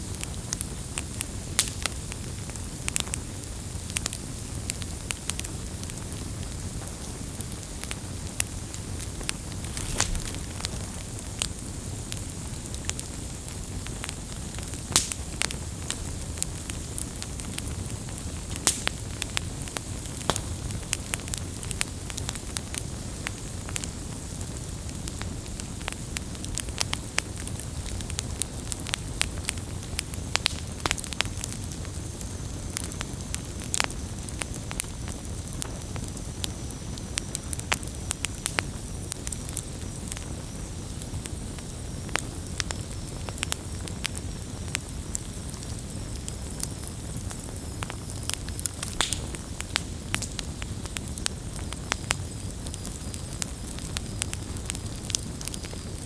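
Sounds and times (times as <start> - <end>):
low rumble of flames: 0.0 - 56.0
wood crackling and popping: 0.2 - 56.0.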